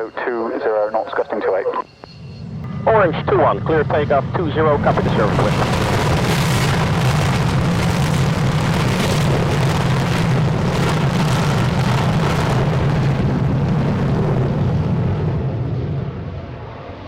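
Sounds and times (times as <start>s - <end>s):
jet aircraft taking off: 0.0s - 17.0s.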